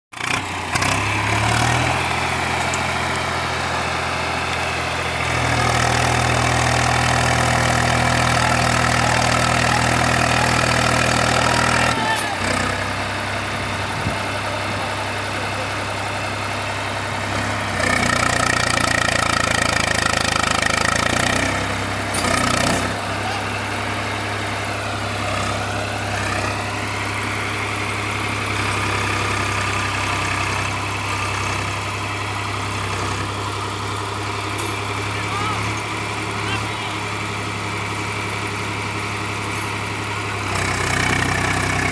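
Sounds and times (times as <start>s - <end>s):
tractor diesel engine idling: 0.1s - 41.9s.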